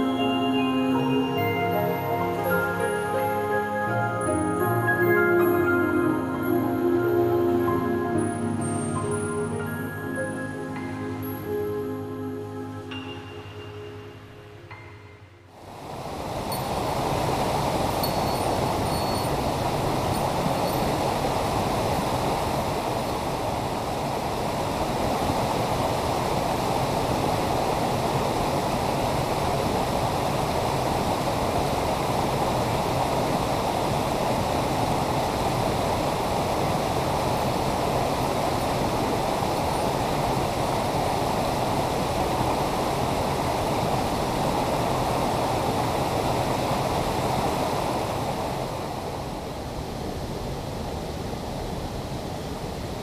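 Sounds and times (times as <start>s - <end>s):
stream rushing over boulders: 0.0s - 14.3s, 15.5s - 53.0s.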